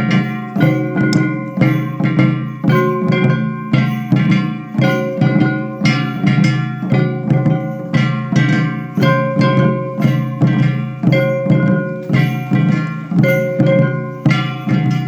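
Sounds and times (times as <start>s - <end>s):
ringing metal gong: 0.0s - 15.0s
taiko drum beats: 0.0s - 15.0s.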